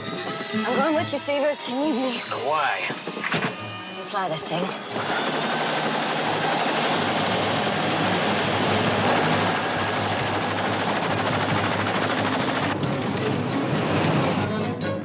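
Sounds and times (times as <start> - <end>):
helicopter engine and rotor: 0.0 - 14.8.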